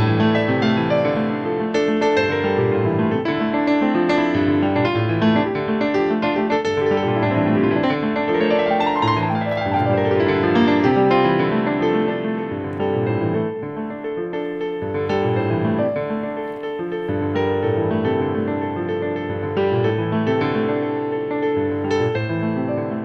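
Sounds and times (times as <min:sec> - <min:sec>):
piano piece: 0:00.0 - 0:23.0.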